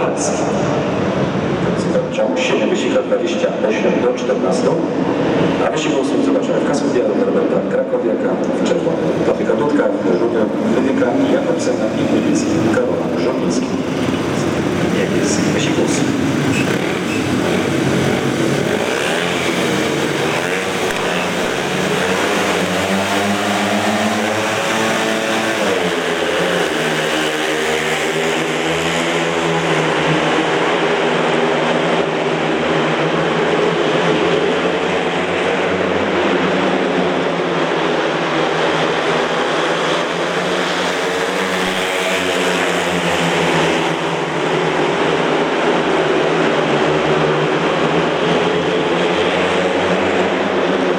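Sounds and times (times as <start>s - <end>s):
motorcycles racing: 0.0s - 50.9s.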